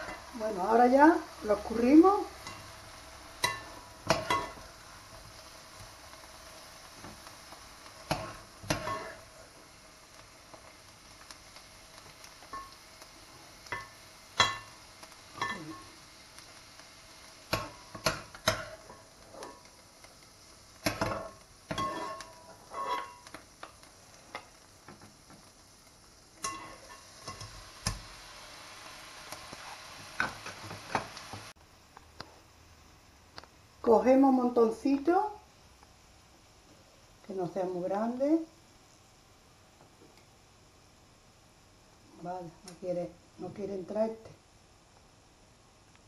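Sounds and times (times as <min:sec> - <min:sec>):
faint sizzle: 0:00.0 - 0:46.0.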